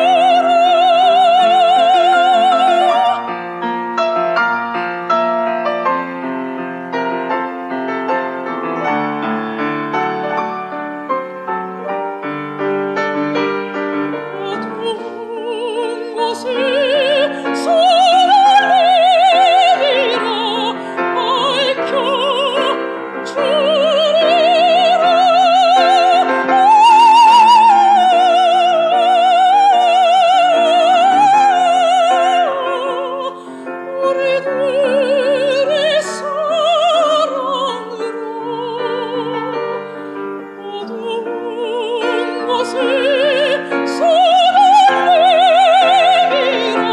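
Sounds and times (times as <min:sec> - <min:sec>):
operatic singing with vibrato: 0:00.0 - 0:05.5, 0:08.4 - 0:46.9
piano playing: 0:00.0 - 0:46.9.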